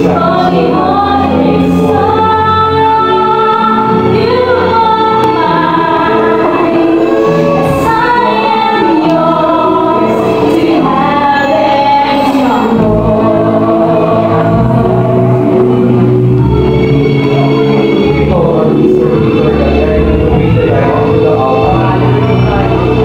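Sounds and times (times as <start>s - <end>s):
musical accompaniment: 0.0s - 23.0s.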